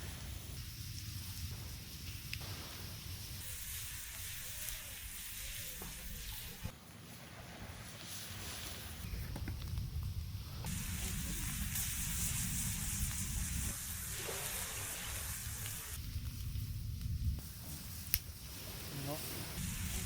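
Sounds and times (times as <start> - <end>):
food sizzling on a grill: 0.0 - 6.7, 10.6 - 20.0.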